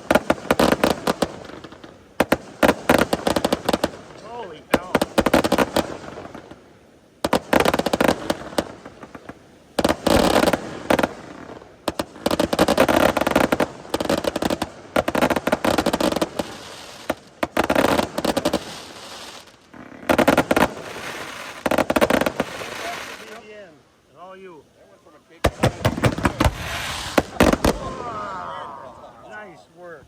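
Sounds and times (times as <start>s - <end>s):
aerial fireworks crackling: 0.0s - 30.0s.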